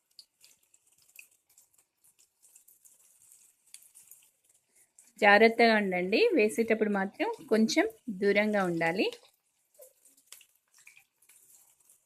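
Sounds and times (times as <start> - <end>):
food crackling in hot oil: 0.0 - 12.0.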